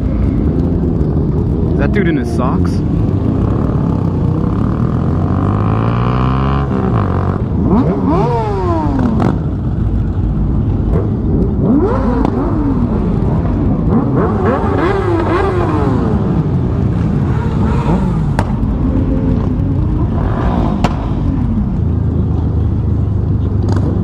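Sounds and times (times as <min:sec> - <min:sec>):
motorcycle engine accelerating: 0:00.0 - 0:24.0
wind rumble: 0:00.0 - 0:24.0.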